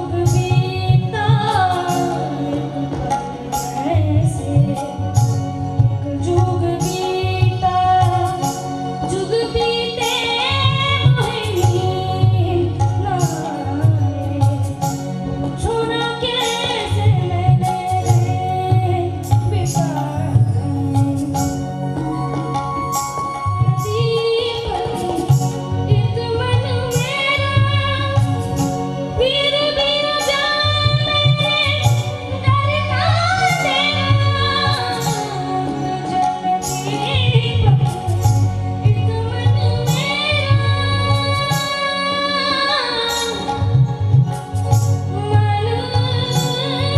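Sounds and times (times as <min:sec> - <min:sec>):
boy singing into a microphone: 0:00.0 - 0:46.9.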